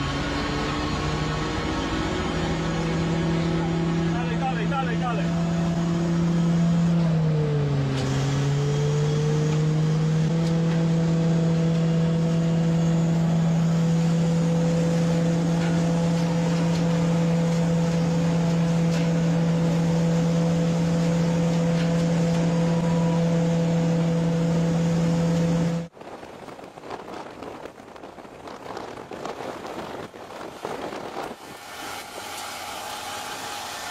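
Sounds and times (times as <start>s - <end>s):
machine engine droning: 0.0s - 26.0s, 29.3s - 33.9s.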